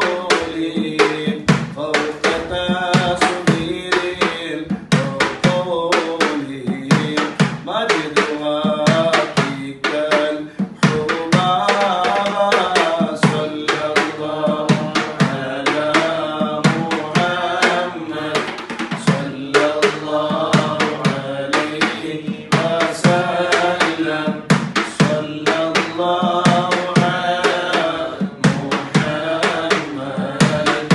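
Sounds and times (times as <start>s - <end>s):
frame drums with jingles: 0.0s - 30.9s
men chanting in unison: 0.0s - 30.9s.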